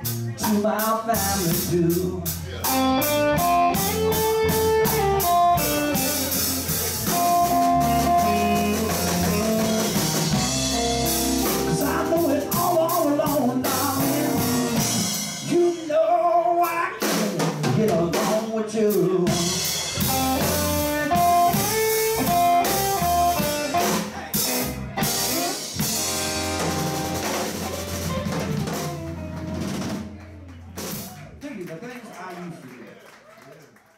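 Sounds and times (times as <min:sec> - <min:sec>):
electric guitar: 0:00.0 - 0:15.6, 0:19.2 - 0:31.1
electric bass: 0:00.0 - 0:16.9, 0:17.6 - 0:31.4
drum kit: 0:00.0 - 0:31.6.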